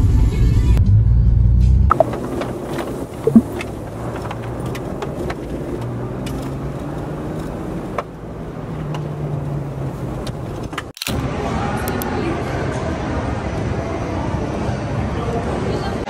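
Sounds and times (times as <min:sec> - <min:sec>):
car road and engine noise: 0:00.0 - 0:14.4.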